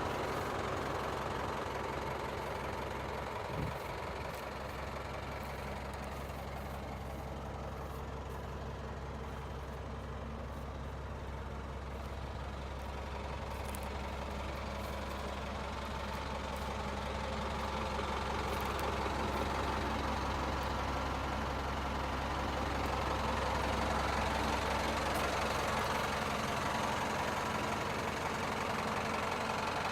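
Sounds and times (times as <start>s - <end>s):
diesel truck engine idling: 0.0s - 29.9s.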